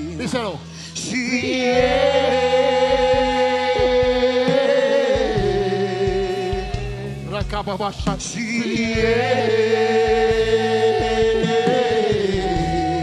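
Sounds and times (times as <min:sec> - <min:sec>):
low held chords: 0:00.0 - 0:13.0.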